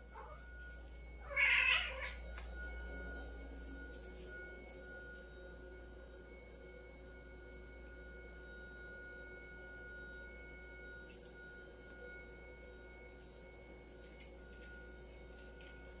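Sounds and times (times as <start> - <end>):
high electrical whine: 0.0 - 16.0
low hum: 0.0 - 16.0.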